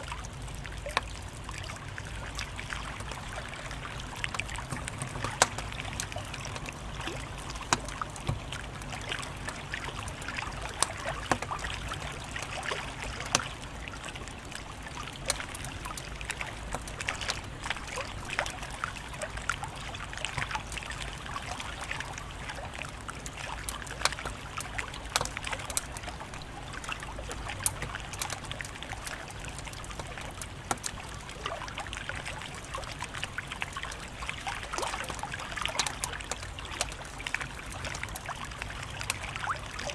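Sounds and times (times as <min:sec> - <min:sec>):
wood fire crackling: 0:00.1 - 0:39.2.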